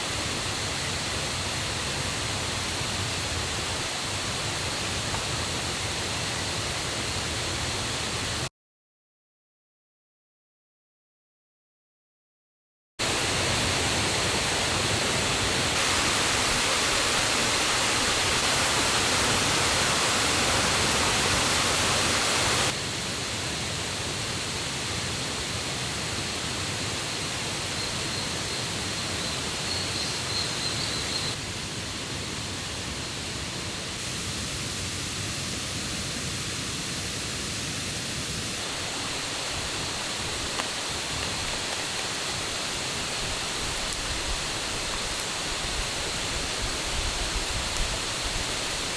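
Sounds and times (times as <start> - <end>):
waterfall and river rushing: 0.0 - 8.5, 13.0 - 48.9.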